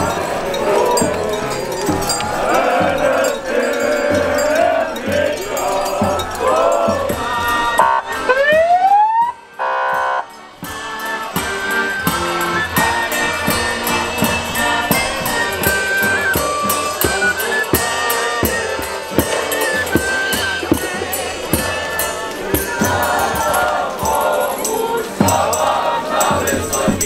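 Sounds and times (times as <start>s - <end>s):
accordion: 0.0s - 27.0s
folk street band playing: 0.0s - 27.0s
steady drumbeat: 0.0s - 27.0s.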